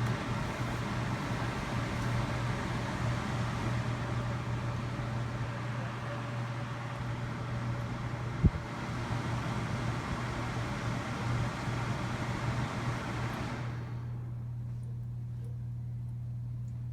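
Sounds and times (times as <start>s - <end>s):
air cooler fan humming: 0.0s - 16.9s.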